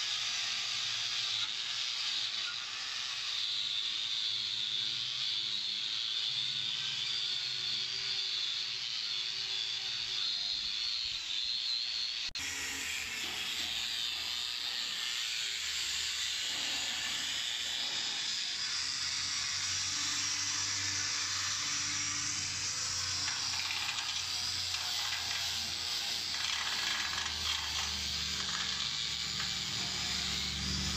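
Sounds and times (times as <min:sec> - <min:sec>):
angle grinder scouring metal: 0:00.0 - 0:30.9.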